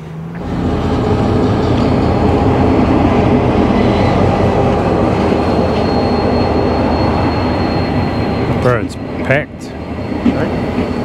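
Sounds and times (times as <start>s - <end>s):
diesel locomotive rumbling: 0.0s - 11.0s
train brake squeal: 0.4s - 11.0s.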